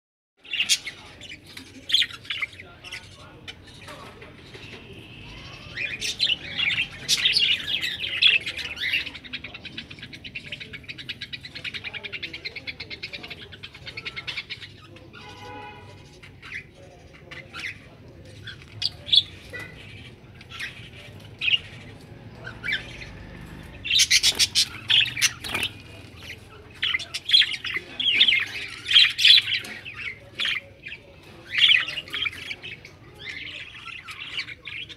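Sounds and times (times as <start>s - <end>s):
budgerigars chirping and chattering: 0.4s - 34.9s.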